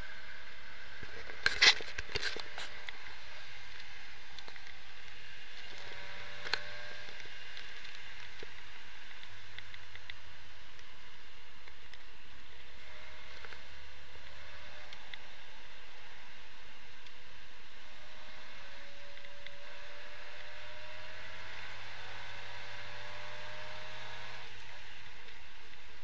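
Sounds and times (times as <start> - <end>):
car engine and road hum: 0.0 - 26.0.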